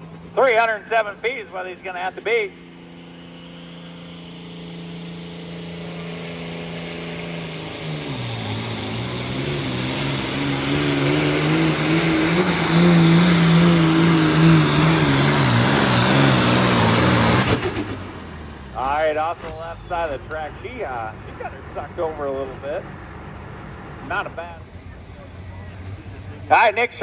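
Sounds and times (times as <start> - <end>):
tractor diesel engine at full throttle: 0.0 - 27.0.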